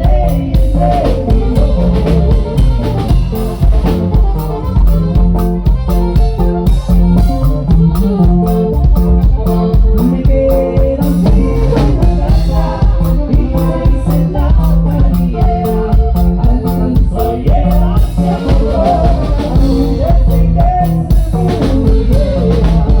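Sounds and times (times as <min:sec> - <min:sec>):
band playing upbeat song: 0:00.0 - 0:23.0.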